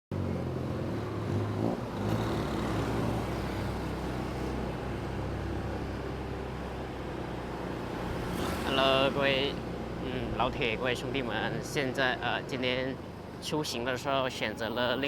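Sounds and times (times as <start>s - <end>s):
city road traffic: 0.1s - 15.0s.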